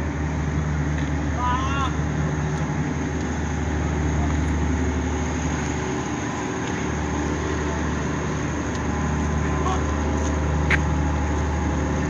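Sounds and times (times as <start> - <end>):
ship diesel engine drone: 0.0 - 12.0.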